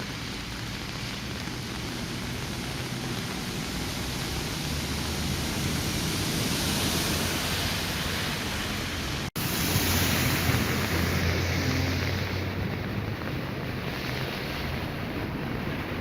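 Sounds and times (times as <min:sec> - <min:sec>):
heavy rain downpour: 0:00.0 - 0:16.0
wind rumbling on microphone: 0:00.0 - 0:16.0.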